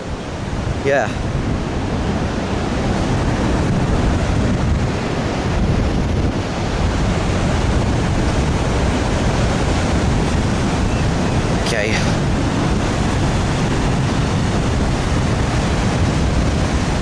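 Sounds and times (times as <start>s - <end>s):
ocean surf: 0.0s - 17.0s
wind on microphone: 0.0s - 17.0s.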